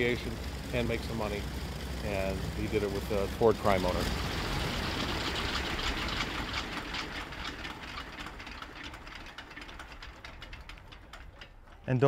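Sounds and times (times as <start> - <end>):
propellers coasting: 0.0 - 12.0
radial engines idling: 0.0 - 12.0.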